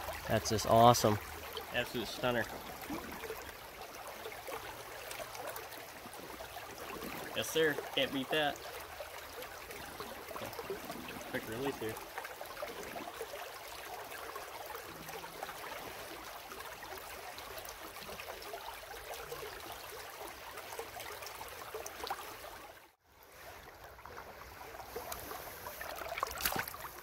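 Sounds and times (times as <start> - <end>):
shallow river flowing: 0.0 - 27.0.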